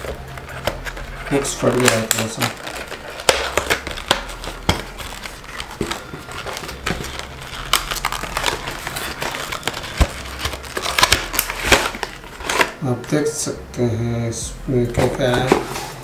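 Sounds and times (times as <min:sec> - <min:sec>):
packaging rustling and crinkling: 0:00.0 - 0:12.8, 0:14.9 - 0:16.0.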